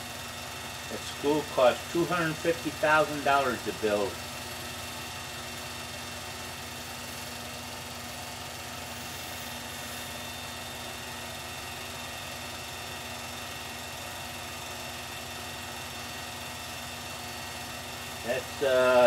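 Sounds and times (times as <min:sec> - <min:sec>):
film projector humming: 0:00.0 - 0:19.0.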